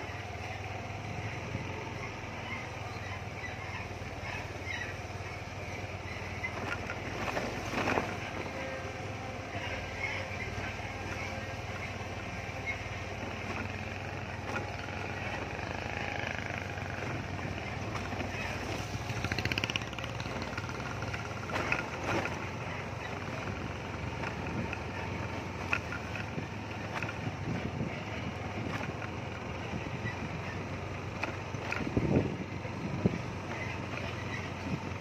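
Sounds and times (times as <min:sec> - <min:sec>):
road noise on dirt road: 0:00.0 - 0:35.0
vehicle engine hum: 0:00.0 - 0:35.0.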